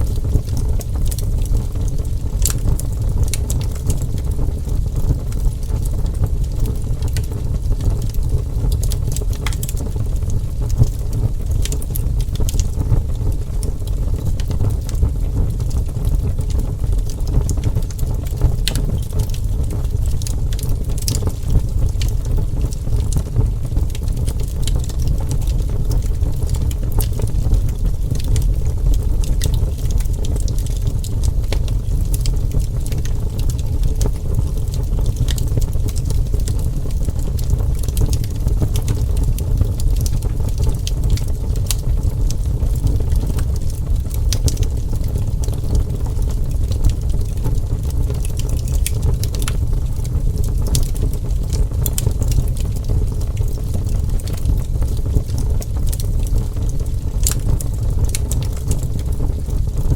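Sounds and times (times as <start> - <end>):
fire crackling and popping: 0.0 - 59.9
wood fire rumbling: 0.0 - 59.9.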